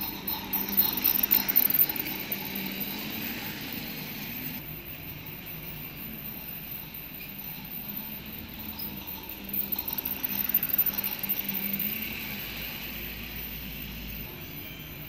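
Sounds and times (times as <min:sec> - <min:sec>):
toy train motor whirring: 0:00.0 - 0:15.0
toy train wheels clattering: 0:00.0 - 0:15.0.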